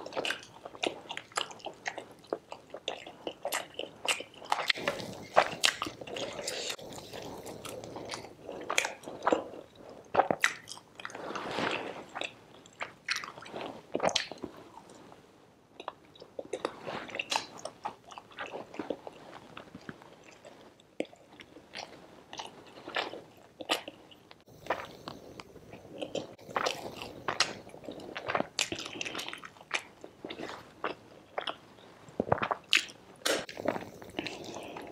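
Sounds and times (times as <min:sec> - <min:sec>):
person chewing food: 0:00.0 - 0:15.0, 0:15.8 - 0:34.9.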